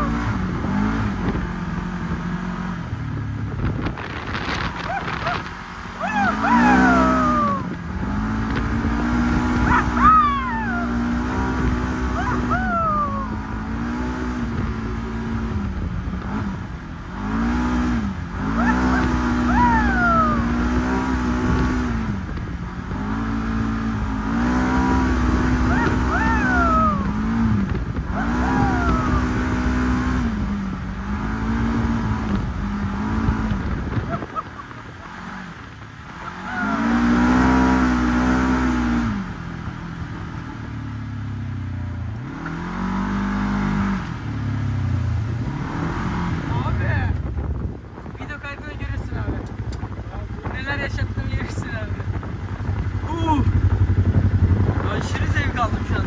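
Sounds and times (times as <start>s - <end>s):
utility vehicle engine revving: 0.0s - 56.0s.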